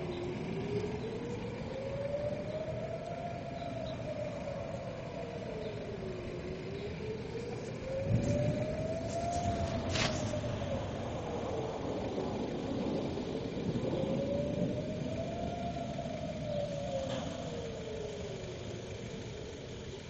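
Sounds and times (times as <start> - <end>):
air raid siren wailing: 0.0 - 20.0.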